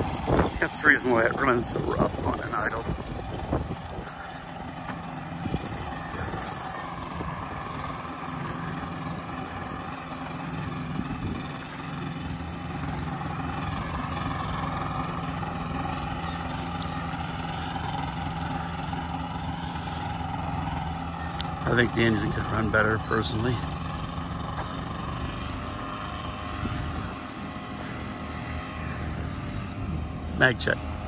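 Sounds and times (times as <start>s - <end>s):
small aircraft engine droning: 0.0s - 31.0s.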